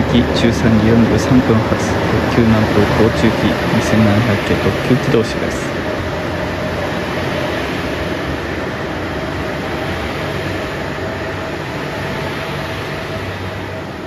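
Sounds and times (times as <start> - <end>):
diesel engine drone: 0.0 - 14.0
wheels on rails: 0.0 - 14.0.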